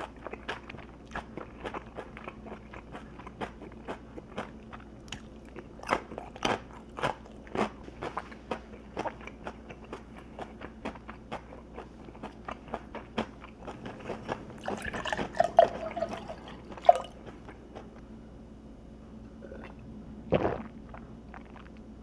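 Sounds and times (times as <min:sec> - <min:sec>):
wet mouth sounds: 0:00.0 - 0:17.4, 0:19.4 - 0:21.8
chewing crunchy food: 0:00.0 - 0:18.1, 0:19.4 - 0:21.9.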